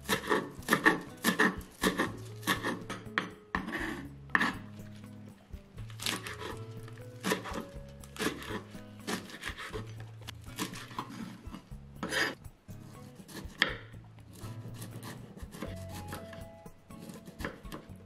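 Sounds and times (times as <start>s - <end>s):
knife chopping vegetables: 0.0s - 4.8s, 5.8s - 18.0s
knife scraping cutting board: 0.0s - 5.1s, 5.9s - 17.9s
soft background music: 0.0s - 18.0s.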